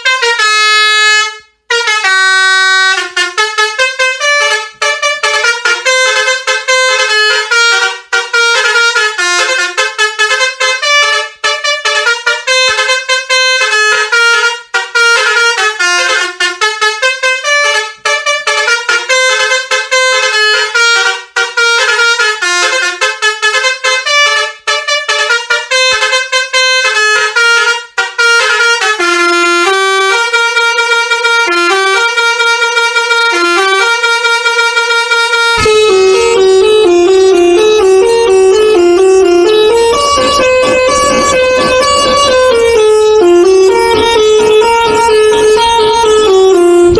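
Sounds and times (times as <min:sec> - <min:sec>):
multi-tone musical horn: 0:00.0 - 0:46.9.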